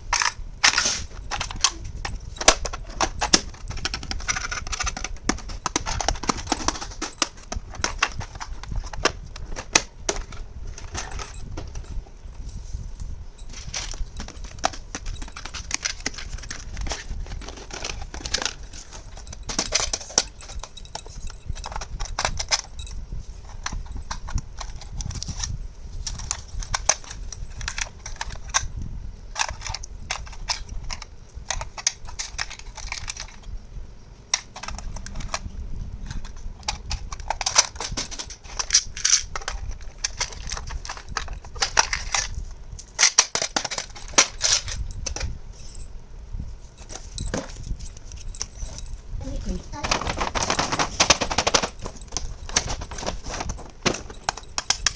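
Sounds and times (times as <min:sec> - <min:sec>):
plastic toy pieces clattering: 0:00.1 - 0:11.8, 0:13.5 - 0:22.9, 0:23.5 - 0:28.7, 0:29.4 - 0:33.4, 0:34.3 - 0:35.4, 0:36.0 - 0:45.3, 0:46.9 - 0:54.9.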